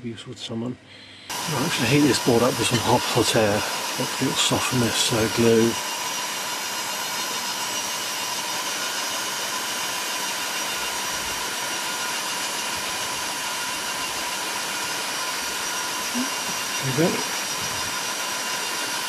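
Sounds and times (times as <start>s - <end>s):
hot-air tool blowing: 1.3s - 19.0s.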